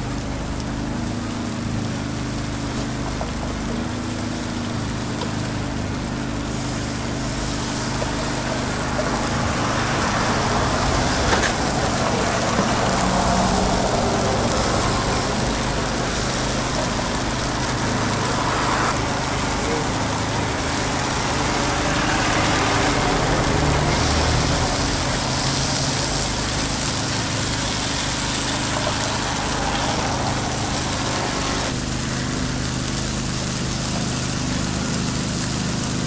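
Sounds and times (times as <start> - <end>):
batter sizzling in pan: 0.0 - 36.0.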